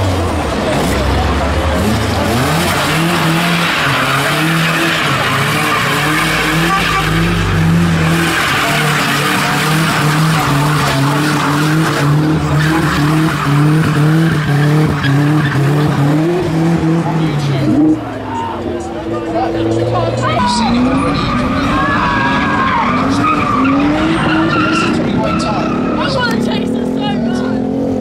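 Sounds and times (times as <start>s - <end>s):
car engine revving: 0.0s - 28.0s
tyres squealing: 2.2s - 27.3s.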